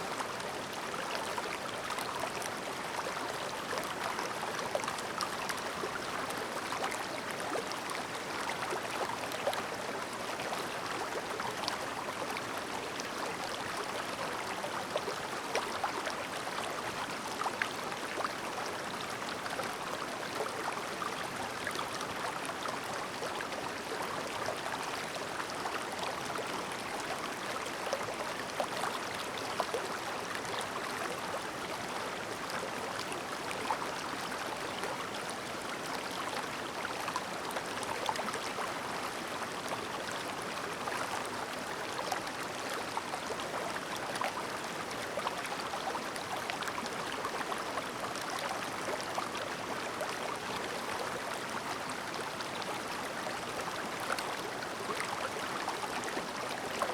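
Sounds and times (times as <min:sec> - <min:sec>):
stream babbling over stones: 0:00.1 - 0:56.9.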